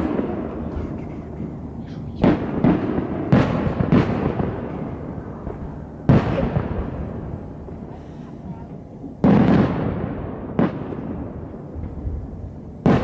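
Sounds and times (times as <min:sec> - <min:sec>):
fireworks booming overhead: 0:00.0 - 0:13.0.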